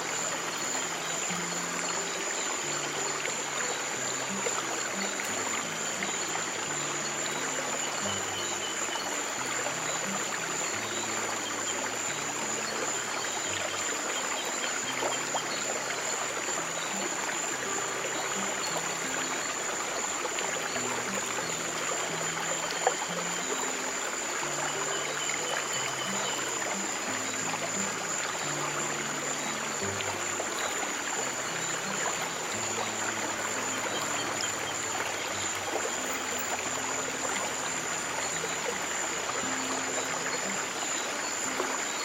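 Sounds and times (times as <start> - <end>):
soft low music notes: 0.0 - 42.0
stream water trickling: 0.0 - 42.0.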